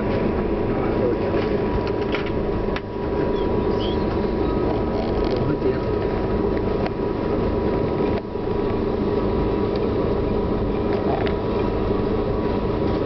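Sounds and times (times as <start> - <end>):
thin steady whine: 0.0 - 13.0
train machinery hum: 0.0 - 13.0.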